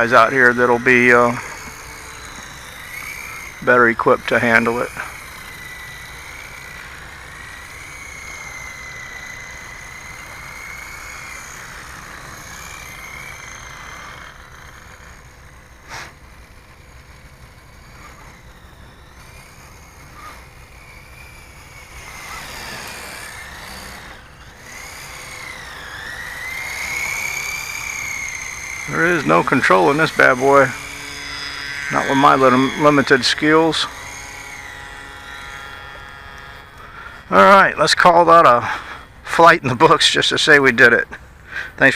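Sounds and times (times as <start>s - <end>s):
rc helicopter motor whine: 0.0s - 41.9s.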